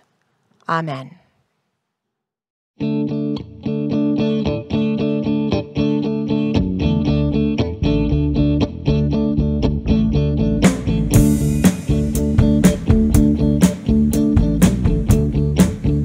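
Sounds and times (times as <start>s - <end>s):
bass: 2.8s - 16.0s
picked guitar notes: 2.8s - 16.0s.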